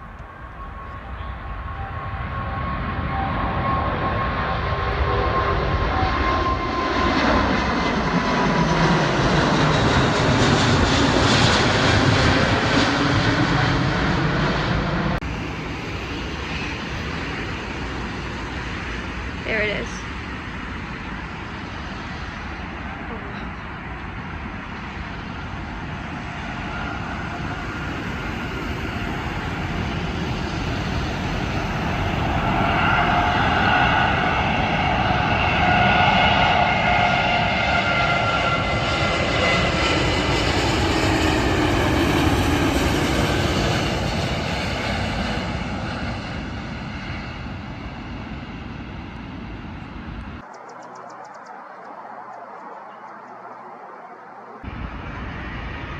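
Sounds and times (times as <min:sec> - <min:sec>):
jet engines roaring: 0:00.0 - 0:55.9
steady whine of tones: 0:00.0 - 0:55.9.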